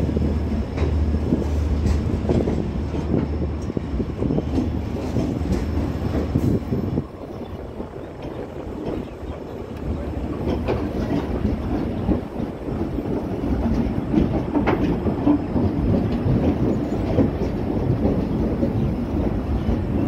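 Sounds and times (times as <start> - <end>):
train wheels rumbling on rails: 0.0 - 20.0
wheels clicking over rail joints: 0.0 - 20.0.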